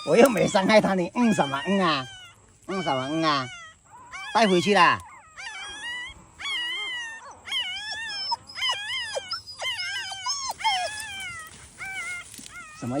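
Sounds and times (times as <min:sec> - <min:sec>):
dog whining: 0:00.0 - 0:13.0.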